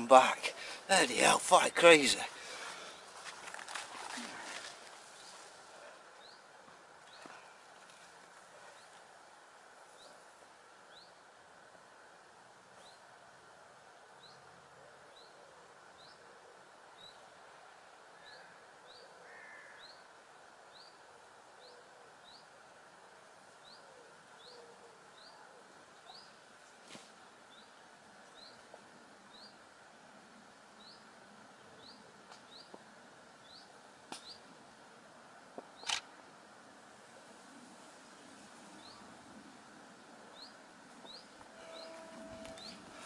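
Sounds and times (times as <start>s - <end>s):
outdoor background hiss: 0.0s - 43.0s.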